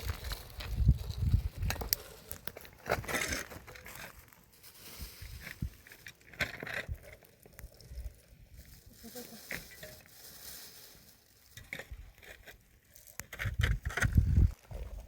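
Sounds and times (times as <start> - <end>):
hand tools digging stony soil: 0.0 - 15.0.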